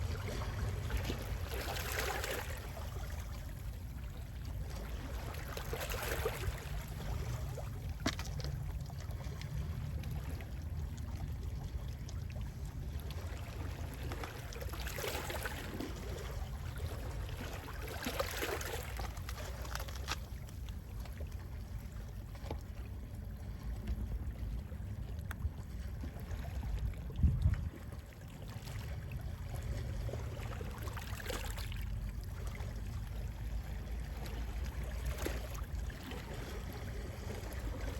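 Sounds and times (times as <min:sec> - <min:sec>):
low rumble of sea wind: 0:00.0 - 0:37.9.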